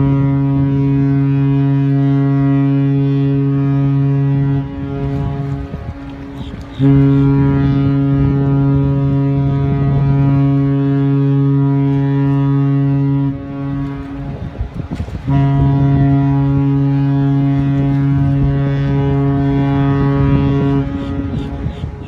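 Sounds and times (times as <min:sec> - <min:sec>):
deep ship horn blasts: 0:00.0 - 0:22.0.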